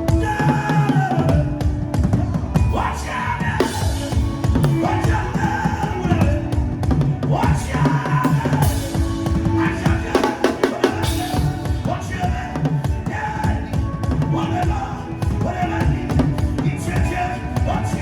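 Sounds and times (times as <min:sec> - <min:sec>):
drum kit beat: 0:00.0 - 0:18.0
gliding melody line: 0:00.0 - 0:18.0.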